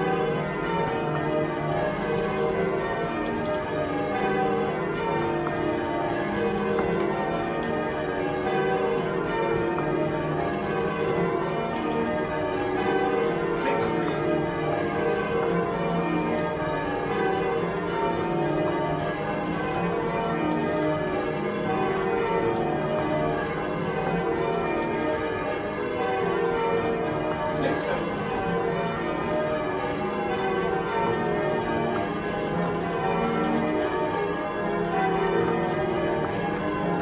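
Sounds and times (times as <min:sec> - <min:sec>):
bells ringing: 0:00.0 - 0:37.0.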